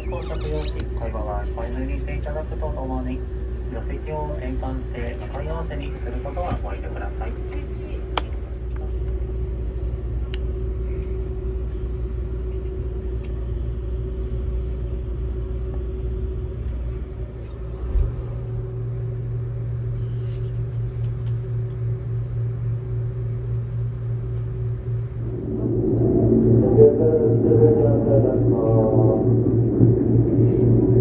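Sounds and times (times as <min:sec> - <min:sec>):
constant hum: 0:00.0 - 0:31.0.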